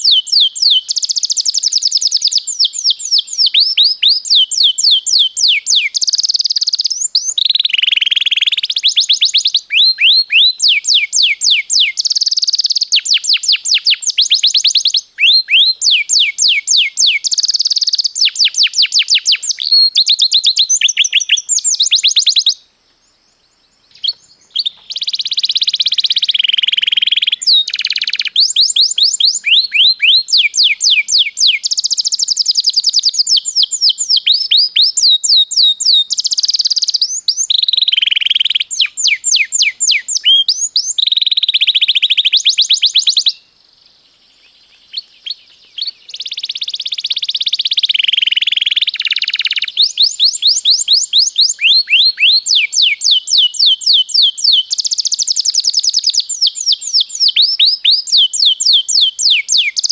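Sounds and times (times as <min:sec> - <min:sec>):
canary singing trills: 0:00.0 - 0:22.6, 0:23.8 - 0:43.5, 0:44.4 - 0:59.9.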